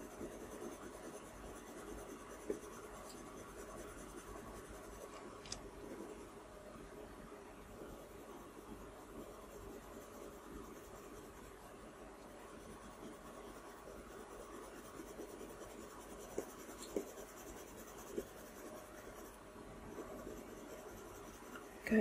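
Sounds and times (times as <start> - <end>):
pencil scratching on paper: 0.0 - 6.2, 7.8 - 11.6, 12.3 - 22.0.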